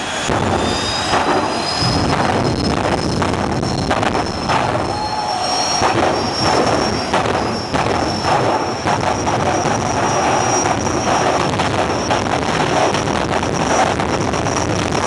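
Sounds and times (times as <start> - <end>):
high-pitched turbine whine: 0.0 - 15.0
turbine engine rushing: 0.0 - 15.0.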